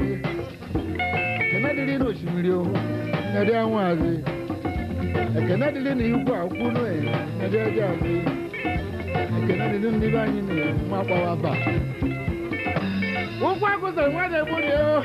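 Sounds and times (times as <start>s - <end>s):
dance band playing: 0.0s - 15.0s.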